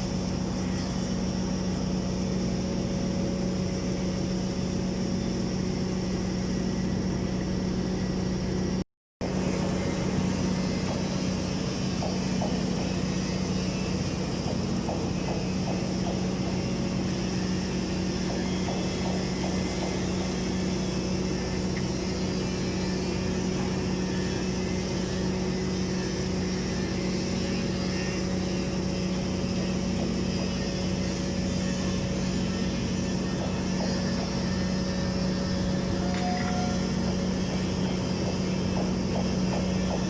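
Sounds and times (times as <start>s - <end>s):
welding machine hum: 0.0s - 40.0s.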